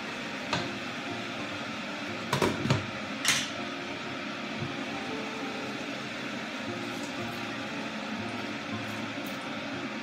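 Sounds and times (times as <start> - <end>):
fan hum: 0.0 - 10.0.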